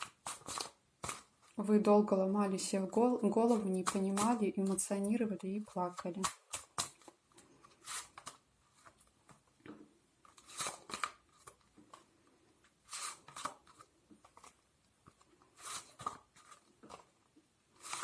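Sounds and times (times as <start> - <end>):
cards rustling and sliding: 0.0 - 1.6, 3.2 - 9.4, 10.2 - 18.0.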